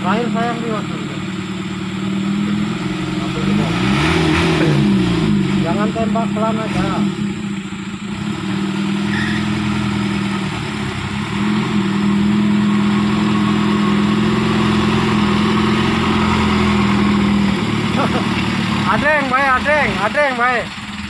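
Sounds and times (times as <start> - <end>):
truck engine under heavy load: 0.0 - 21.0.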